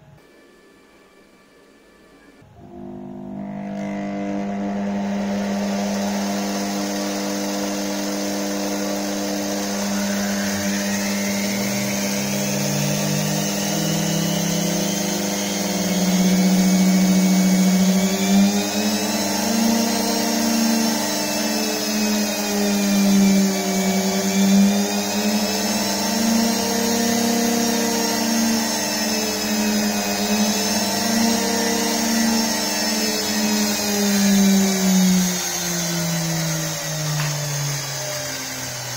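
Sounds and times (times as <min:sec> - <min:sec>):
electric motor whining: 0:01.1 - 0:38.9.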